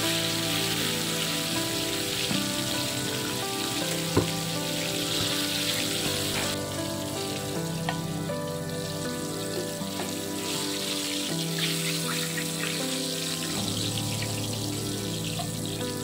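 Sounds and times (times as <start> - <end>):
background music with held notes: 0.0 - 16.0
hot oil sizzling and bubbling: 0.0 - 16.0.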